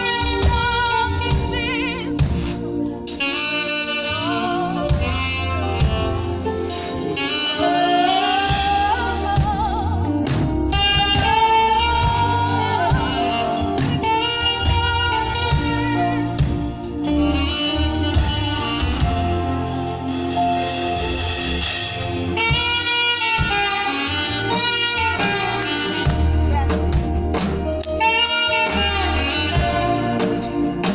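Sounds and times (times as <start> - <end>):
backing track with bass and drums: 0.0 - 30.9
saxophone melody: 0.0 - 30.9.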